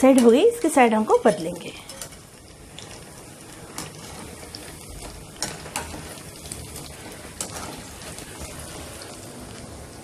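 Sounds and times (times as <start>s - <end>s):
deep-frying sizzle in oil: 0.0s - 10.0s.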